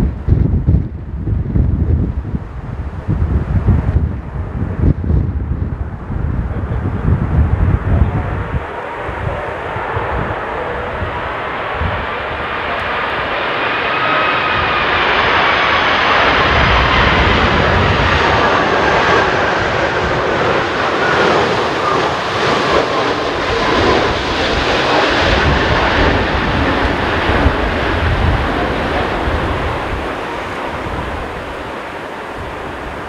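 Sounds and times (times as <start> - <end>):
jet engines passing close: 0.0 - 33.0.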